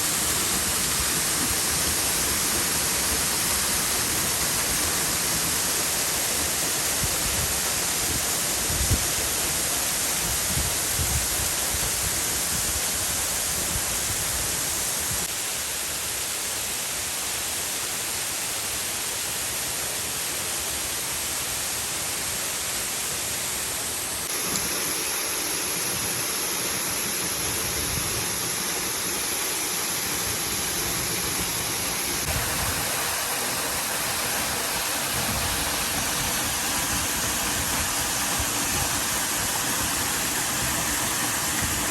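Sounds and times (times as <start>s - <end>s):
waterfall rushing and splashing: 0.0s - 41.9s.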